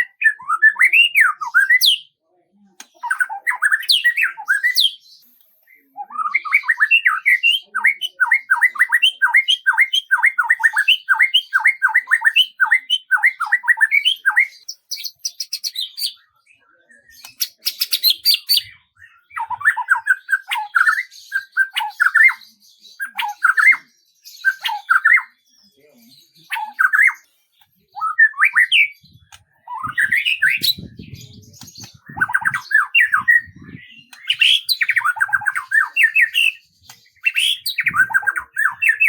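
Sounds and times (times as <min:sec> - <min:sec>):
songbird chirping: 0:00.0 - 0:39.0.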